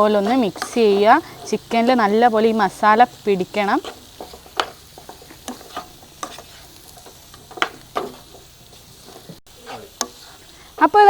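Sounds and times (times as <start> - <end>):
faint sizzle: 0.0 - 11.0
spoon scraping in a pan: 0.0 - 11.0.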